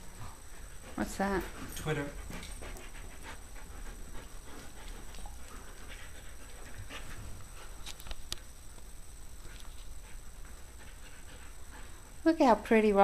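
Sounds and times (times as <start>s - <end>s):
dog panting: 0.1s - 7.8s, 9.4s - 12.2s.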